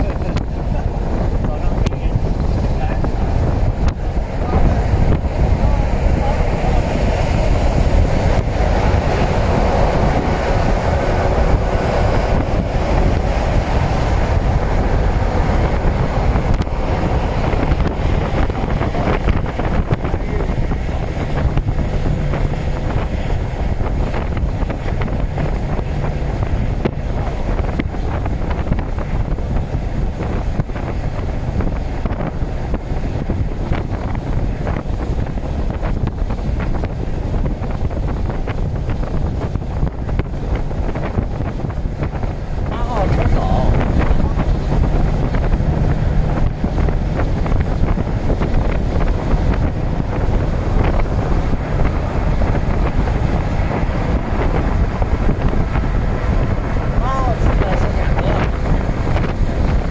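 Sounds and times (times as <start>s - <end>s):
freight train rumbling past: 0.0s - 59.9s
wind buffeting microphone: 0.0s - 59.9s.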